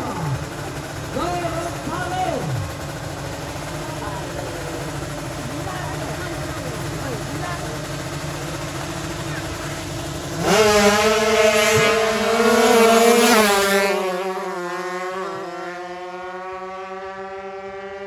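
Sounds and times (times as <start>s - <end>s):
motorcycles launching at full throttle: 0.0s - 18.0s.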